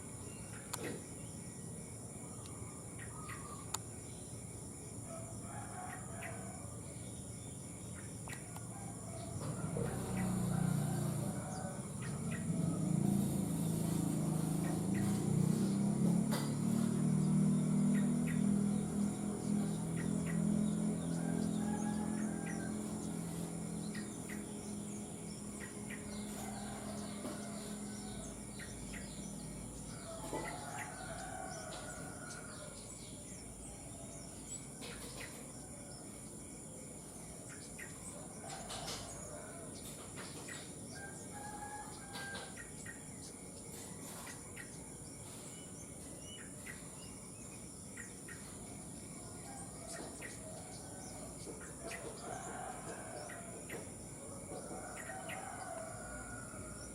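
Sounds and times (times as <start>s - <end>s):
distant roosters crowing: 0.0s - 7.6s, 8.2s - 56.9s
high insect whine: 0.0s - 56.9s.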